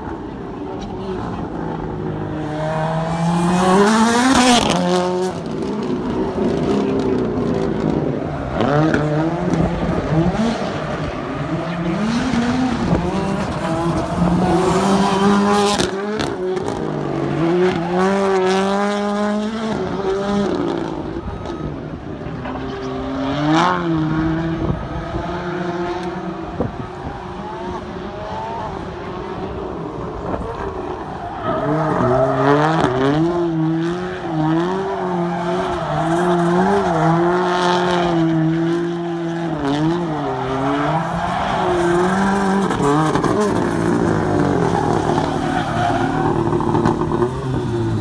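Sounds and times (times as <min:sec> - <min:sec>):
car engine revving: 0:00.4 - 0:48.0.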